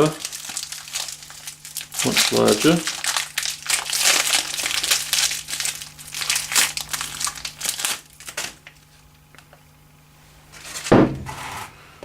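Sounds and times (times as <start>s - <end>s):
packaging crinkling and rustling: 0.0s - 9.7s, 10.5s - 10.9s.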